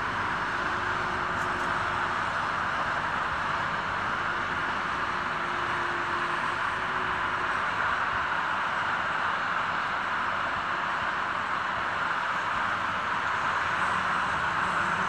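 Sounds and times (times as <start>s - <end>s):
construction site noise: 0.0s - 15.0s
road traffic hiss: 0.0s - 15.0s.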